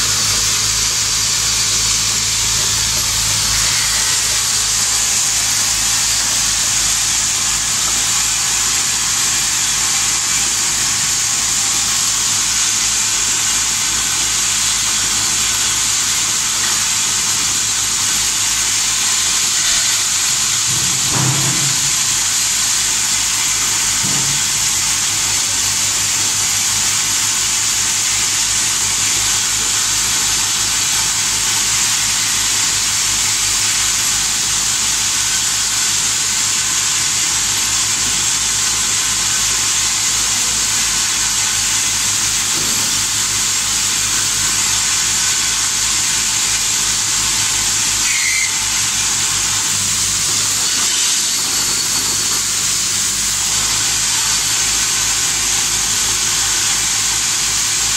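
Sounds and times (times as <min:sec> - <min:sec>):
packing machine hissing: 0:00.0 - 0:57.9.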